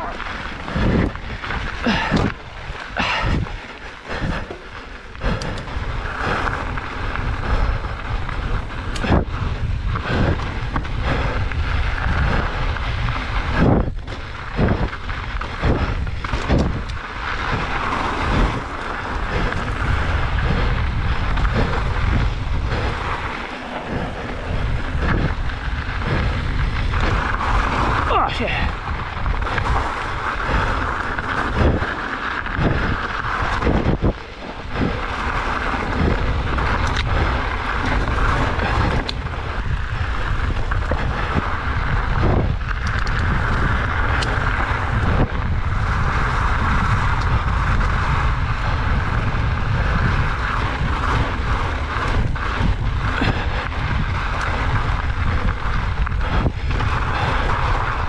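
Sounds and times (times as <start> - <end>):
bike knocking and rattling: 0.0 - 58.0
bike tyre noise on dirt: 0.0 - 58.0
wind rushing over microphone: 0.0 - 58.0.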